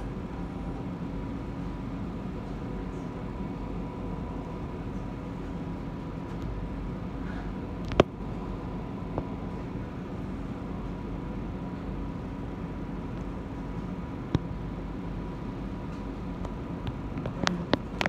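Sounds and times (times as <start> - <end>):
tram running hum: 0.0 - 18.0.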